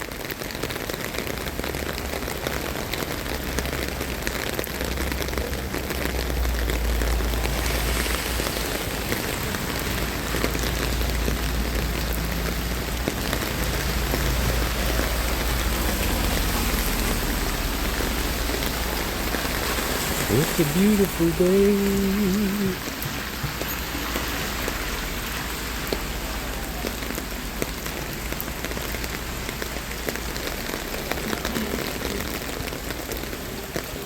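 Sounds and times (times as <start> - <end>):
heavy rain splashing: 0.0 - 34.0.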